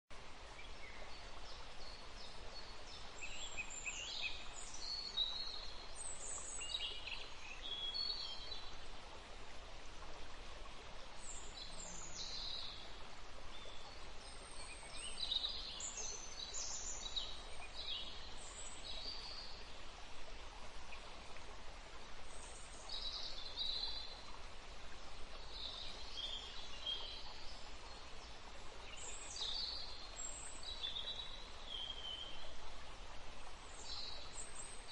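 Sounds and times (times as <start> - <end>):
steady outdoor hiss: 0.1 - 34.9.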